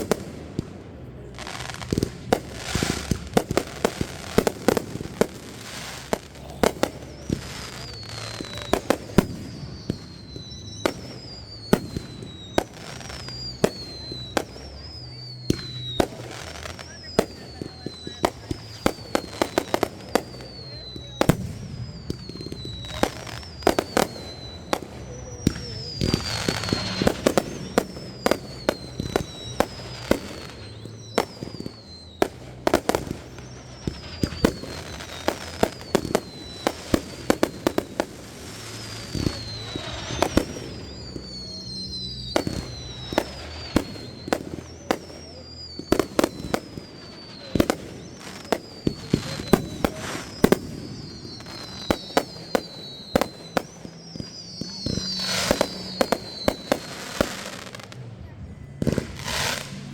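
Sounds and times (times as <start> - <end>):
falling firework whistles: 0.0 - 59.9
fireworks bangs and crackles: 0.0 - 59.9.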